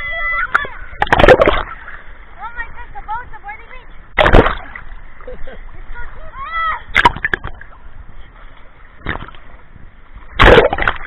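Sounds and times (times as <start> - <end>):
seawater splashing: 0.0 - 11.0.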